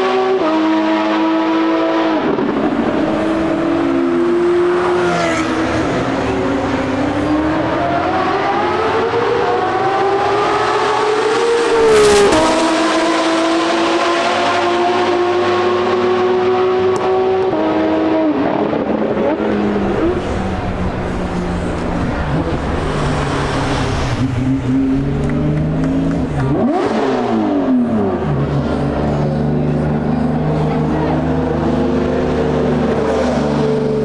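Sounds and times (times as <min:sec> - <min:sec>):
sports car engines revving: 0:00.0 - 0:34.0.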